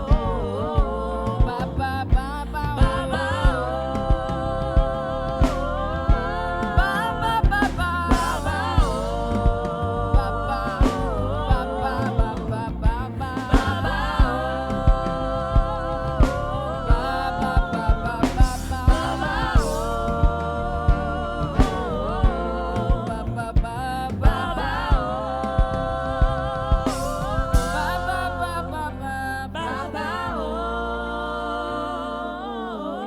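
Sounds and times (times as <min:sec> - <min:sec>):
live band gospel music: 0:00.0 - 0:33.0.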